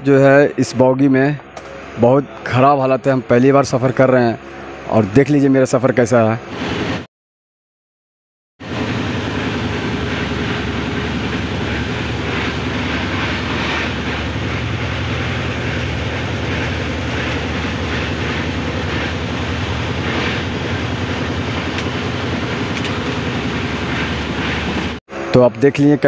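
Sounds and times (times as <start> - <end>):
passenger train rumbling: 0.0 - 7.0, 8.6 - 26.0.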